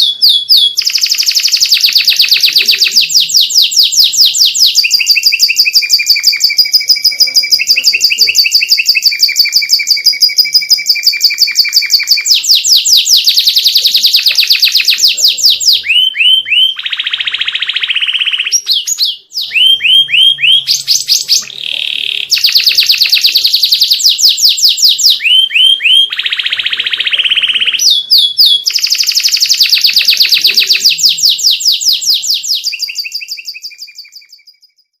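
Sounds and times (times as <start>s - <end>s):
canary singing rapid trills: 0.0s - 35.0s.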